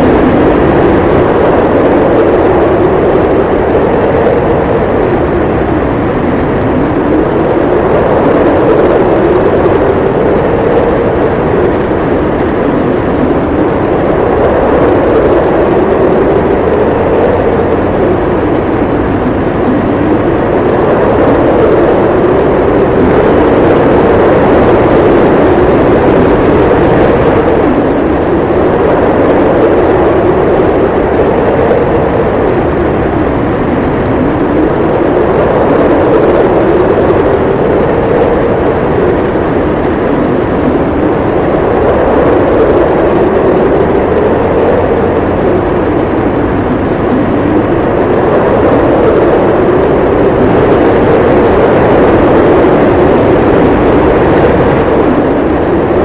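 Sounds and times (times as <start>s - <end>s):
howling blizzard wind: 0.0s - 56.0s.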